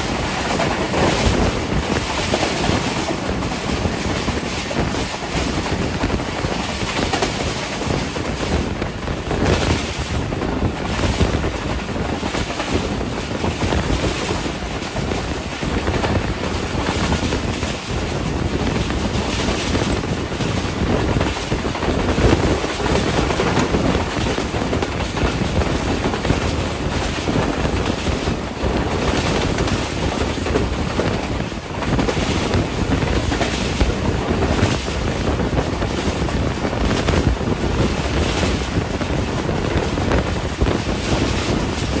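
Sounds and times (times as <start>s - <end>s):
train wheels rumbling on rails: 0.0s - 42.0s
wind buffeting microphone: 0.0s - 42.0s.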